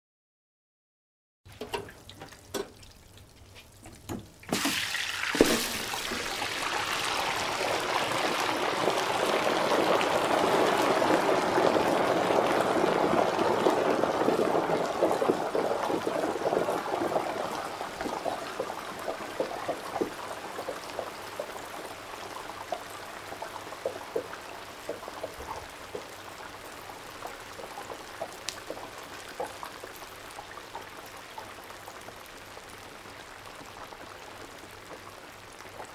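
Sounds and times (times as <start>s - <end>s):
hot oil sizzling in deep fryer: 1.5s - 35.9s.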